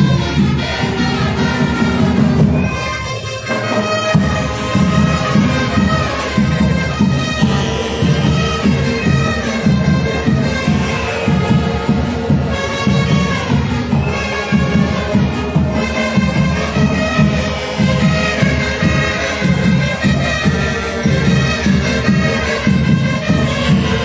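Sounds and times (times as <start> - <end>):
drum beat: 0.0 - 24.0
horns and trumpets: 0.0 - 24.0.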